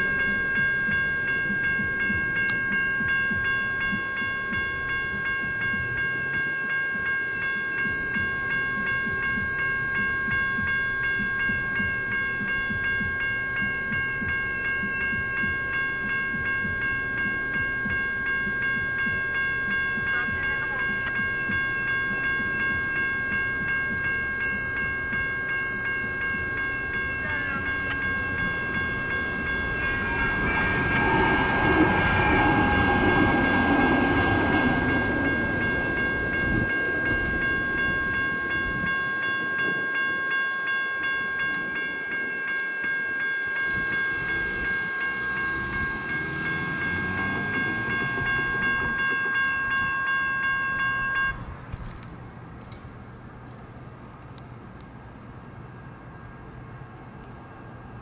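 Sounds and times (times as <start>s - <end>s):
light rail train passing: 0.0s - 58.0s
railroad crossing bells ringing: 0.0s - 58.0s.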